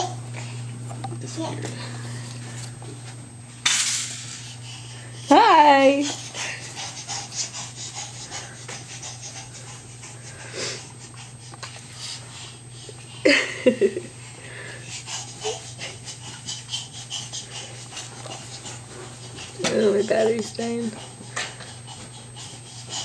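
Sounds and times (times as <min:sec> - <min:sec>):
heavy panting: 0:04.4 - 0:23.0.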